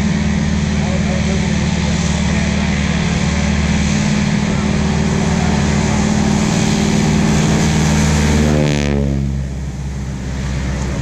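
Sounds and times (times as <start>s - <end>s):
propeller plane passing: 0.0s - 11.0s.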